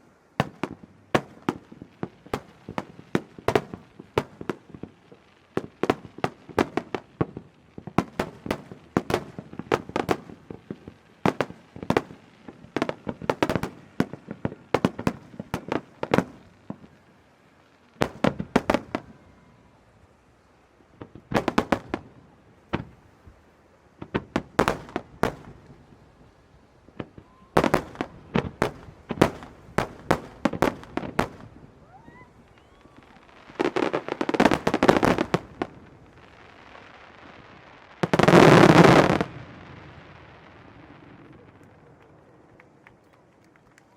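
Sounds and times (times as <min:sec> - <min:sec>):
fireworks bangs: 0:00.0 - 0:19.9, 0:20.9 - 0:26.3, 0:26.9 - 0:42.9
fireworks crackling: 0:00.0 - 0:43.9.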